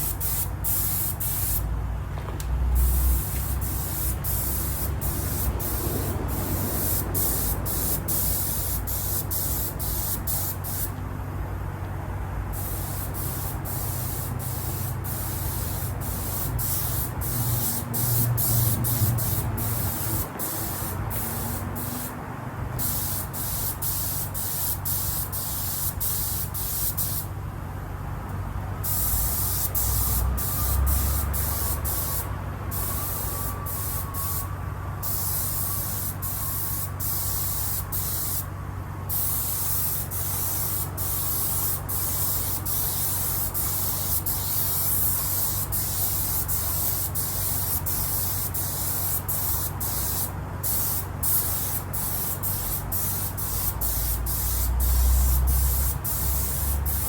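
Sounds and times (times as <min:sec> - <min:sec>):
spray gun hissing in bursts: 0:00.0 - 0:01.7, 0:02.7 - 0:11.0, 0:12.5 - 0:22.2, 0:22.8 - 0:27.3, 0:28.8 - 0:34.4, 0:35.0 - 0:38.5, 0:39.1 - 0:57.0.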